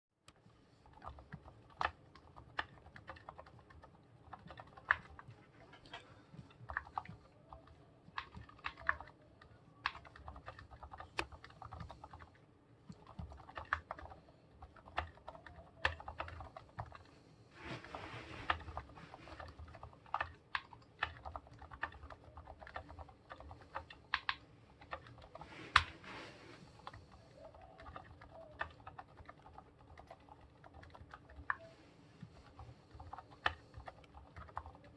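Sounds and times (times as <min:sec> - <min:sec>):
typing on mechanical keyboard: 0:00.8 - 0:17.1, 0:17.9 - 0:25.9, 0:26.6 - 0:34.9.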